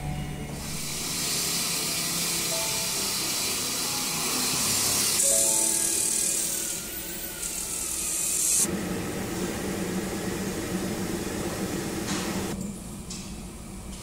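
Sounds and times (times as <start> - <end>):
plasma cutter humming: 0.6 - 12.6.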